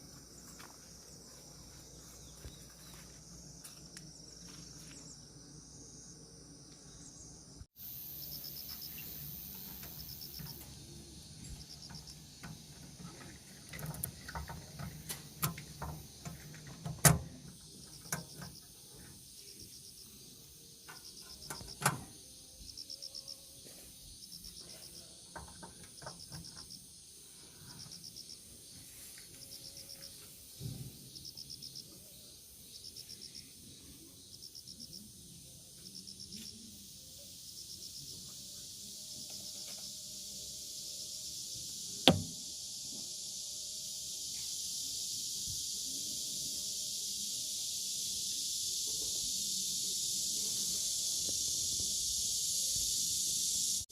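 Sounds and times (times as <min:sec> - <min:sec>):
insects chirping: 0:00.0 - 0:53.9.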